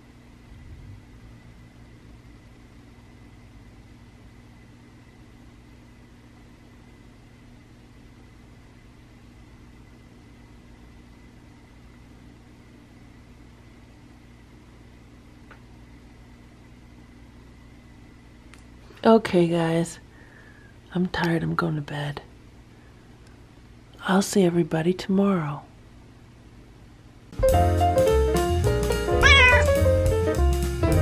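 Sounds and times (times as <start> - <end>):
low room hum: 0.0 - 30.4.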